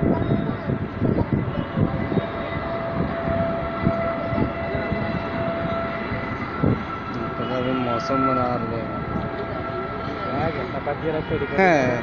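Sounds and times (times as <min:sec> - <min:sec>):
distant small aircraft engine: 0:00.0 - 0:12.0.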